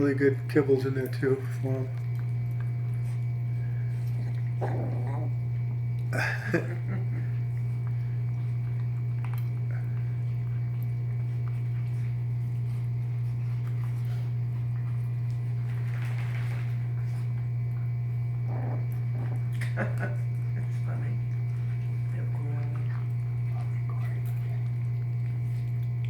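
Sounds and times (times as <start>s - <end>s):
puppies chewing dry kibble: 0.0s - 26.0s
steady low hum: 0.0s - 26.0s.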